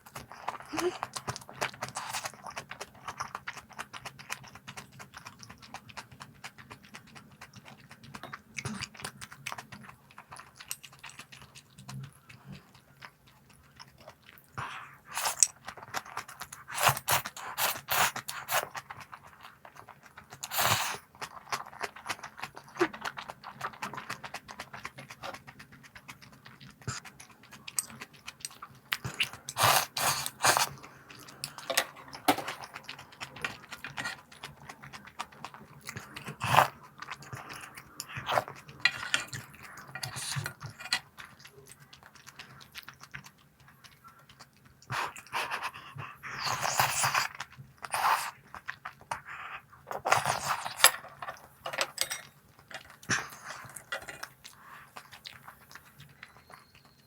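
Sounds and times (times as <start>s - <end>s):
chewing crunchy snacks: 0.0s - 57.0s.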